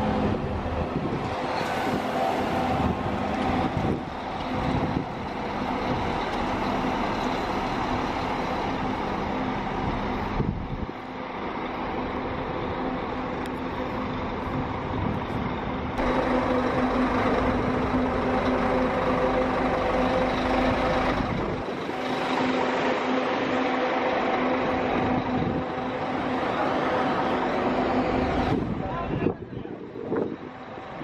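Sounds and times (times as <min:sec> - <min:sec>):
bus engine idling: 0:00.0 - 0:31.0.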